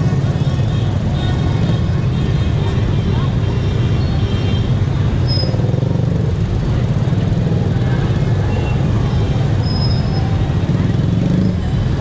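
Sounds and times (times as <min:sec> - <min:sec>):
crowd voices: 0:00.0 - 0:12.0
motorbike engines rumbling: 0:00.0 - 0:12.0.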